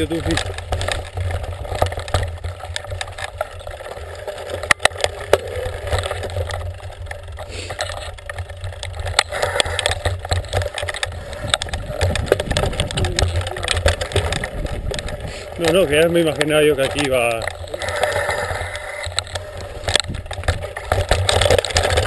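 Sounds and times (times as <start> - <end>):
bike knocks and rattles: 0.0 - 22.0
bike rumbling over rough ground: 0.0 - 22.0.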